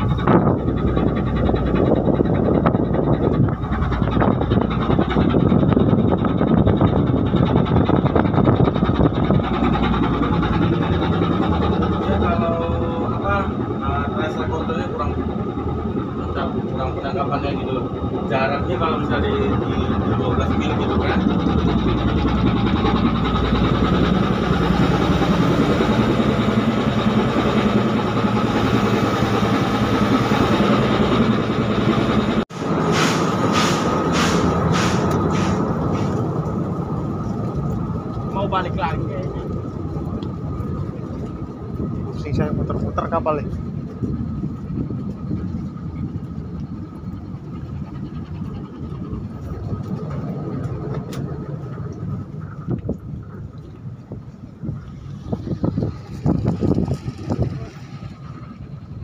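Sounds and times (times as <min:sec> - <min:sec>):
faint machinery whine: 0:00.0 - 0:59.0
ship diesel engine drone: 0:00.0 - 0:59.0.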